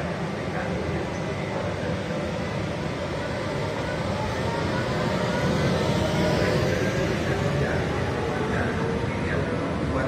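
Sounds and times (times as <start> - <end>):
rising train motor whine: 0.0 - 10.0
train rumble of motors and wheels: 0.0 - 10.0.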